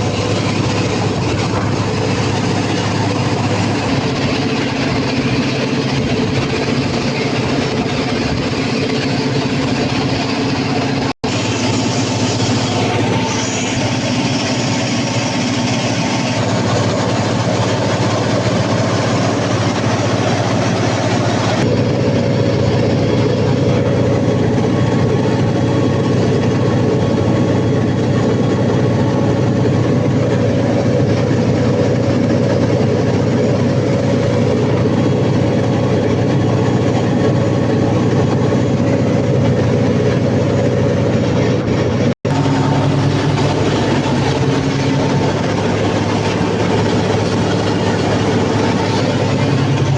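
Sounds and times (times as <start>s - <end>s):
diesel generator engine droning: 0.0s - 49.9s.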